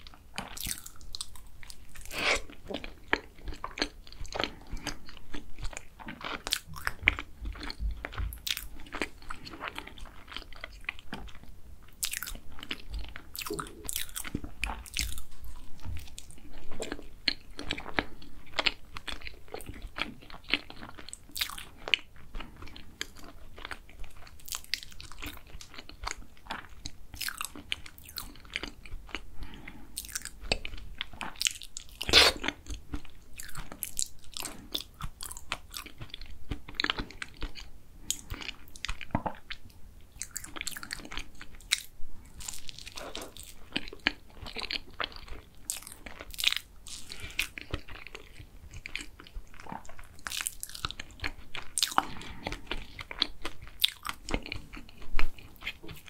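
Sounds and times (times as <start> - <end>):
chewing crunchy pastry: 0.0 - 56.0.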